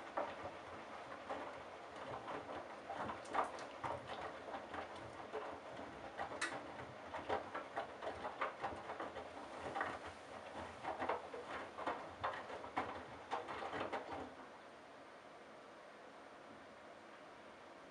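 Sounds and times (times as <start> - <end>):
washing machine water sloshing: 0.0 - 14.5.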